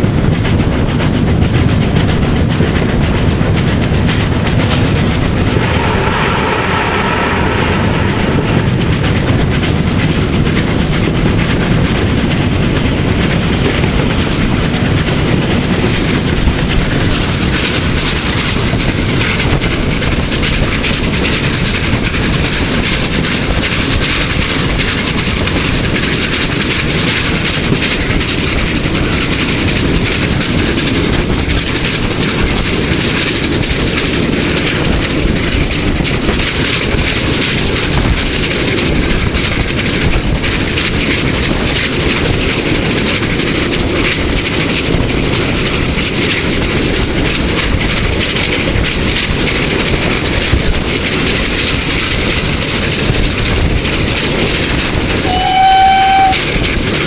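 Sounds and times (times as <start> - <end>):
steam locomotive working: 0.0 - 57.0
wheels clattering on rails: 0.0 - 57.0.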